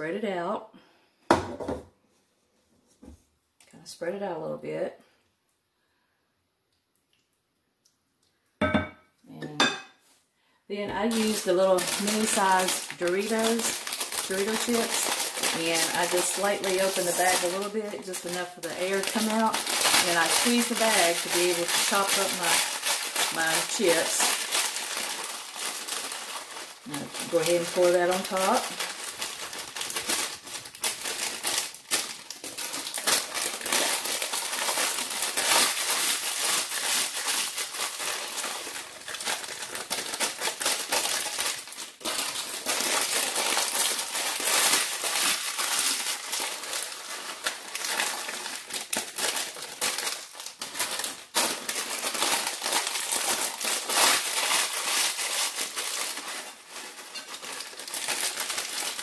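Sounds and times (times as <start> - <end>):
snack bag crinkling: 11.0 - 59.0.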